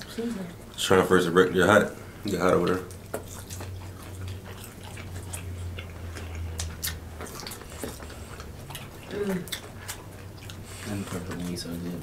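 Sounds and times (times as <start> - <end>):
people chewing and crunching: 0.0 - 12.0
steady low hum: 0.0 - 12.0.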